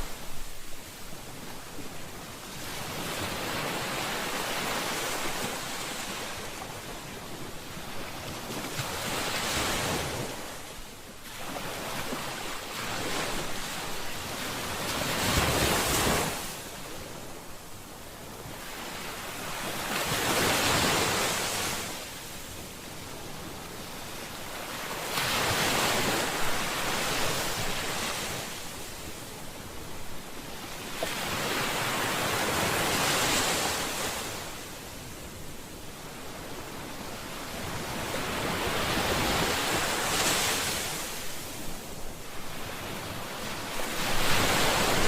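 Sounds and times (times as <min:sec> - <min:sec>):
ocean waves breaking on shore: 0:00.0 - 0:45.0.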